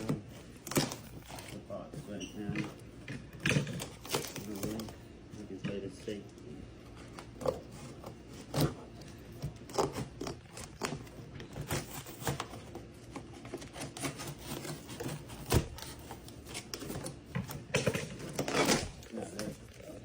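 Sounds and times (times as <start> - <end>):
scissors cutting cardboard: 0.0 - 2.8, 3.4 - 5.0, 6.9 - 19.5.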